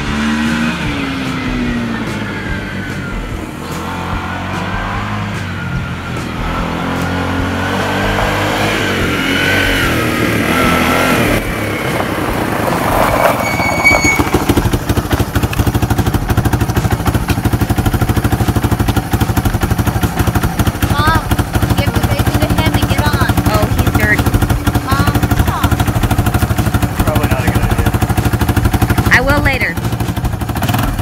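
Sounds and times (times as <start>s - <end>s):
all-terrain vehicle engine running: 0.0s - 31.0s.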